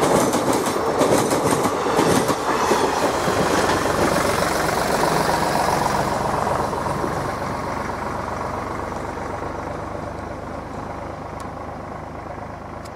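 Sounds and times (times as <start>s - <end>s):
train rumbling on rails: 0.0s - 12.9s.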